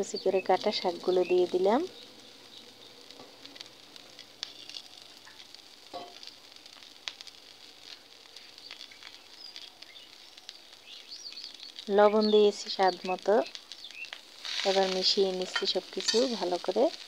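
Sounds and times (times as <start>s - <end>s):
greens sizzling in hot oil: 0.0s - 17.0s.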